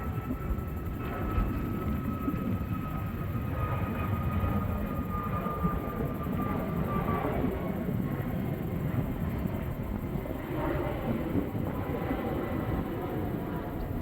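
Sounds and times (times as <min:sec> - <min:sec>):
jet engines rumbling with whine: 0:00.0 - 0:14.0.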